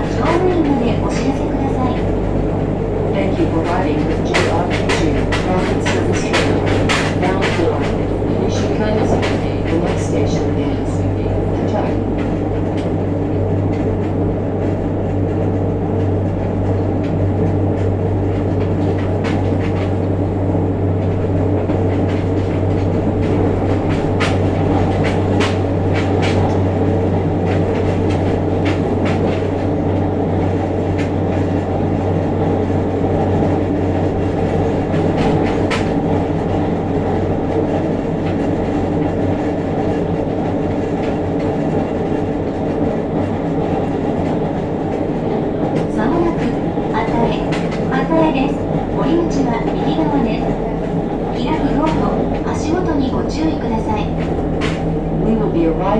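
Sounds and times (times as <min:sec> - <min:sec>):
electric train motor hum: 0:00.0 - 0:55.9.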